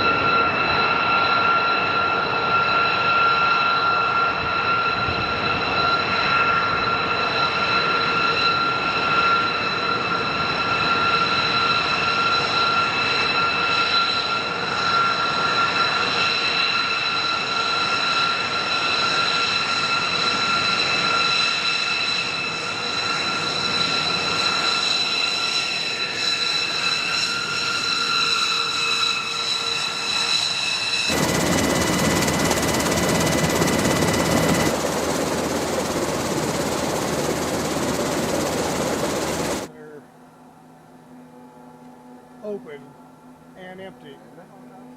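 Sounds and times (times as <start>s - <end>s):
jet engines roaring and whining: 0.0s - 40.0s.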